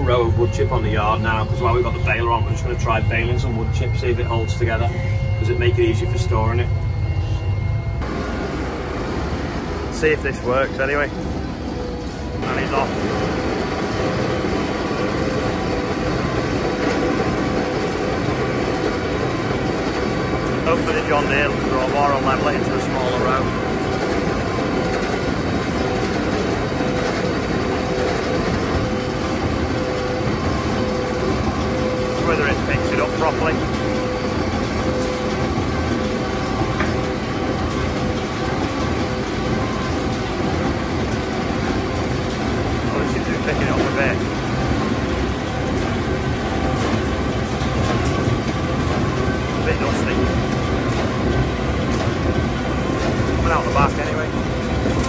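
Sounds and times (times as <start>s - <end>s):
tractor and baler running: 0.0s - 4.9s, 8.0s - 11.1s, 12.0s - 55.0s.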